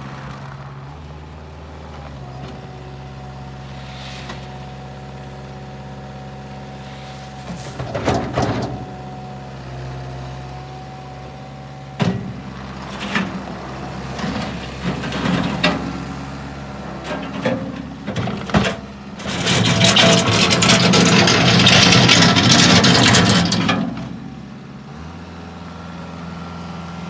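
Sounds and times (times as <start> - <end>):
diesel engine running: 0.6 - 27.0.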